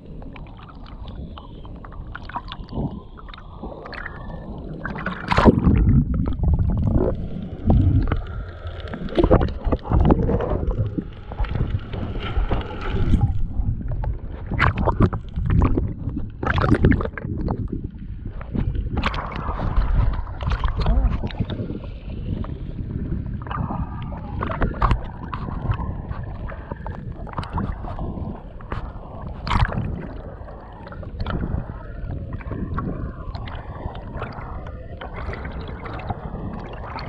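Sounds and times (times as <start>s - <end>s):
water sloshing and splashing: 0.0s - 37.0s.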